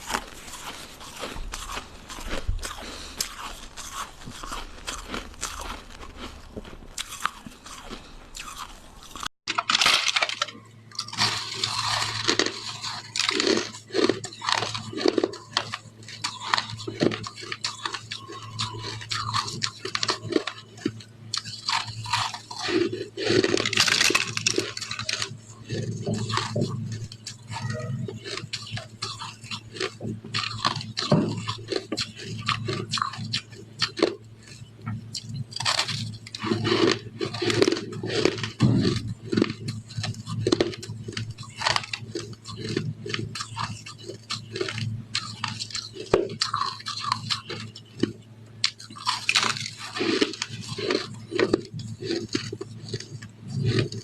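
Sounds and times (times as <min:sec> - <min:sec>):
ice being chewed: 0:00.0 - 0:54.0
low hum: 0:00.0 - 0:54.0.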